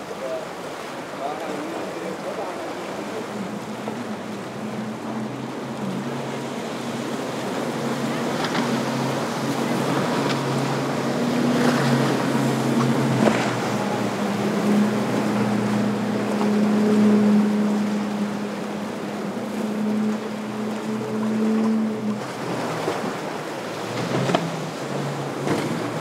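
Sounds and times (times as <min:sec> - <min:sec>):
motorboat engines running: 0:00.0 - 0:26.0
waves: 0:00.0 - 0:26.0
wind: 0:00.0 - 0:26.0.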